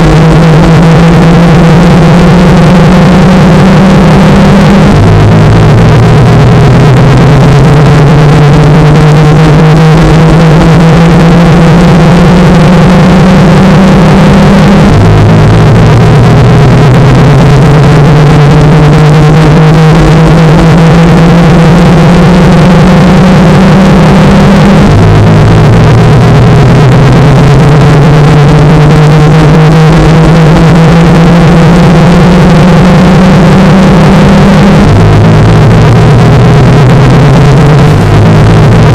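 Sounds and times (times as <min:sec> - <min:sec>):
rising whine: 0:00.0 - 0:38.9.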